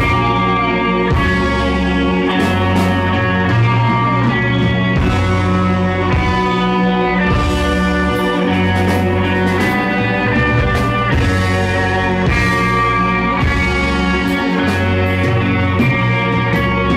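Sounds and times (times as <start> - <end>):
low bass line: 0.0 - 16.9
rock band playing live: 0.0 - 16.9.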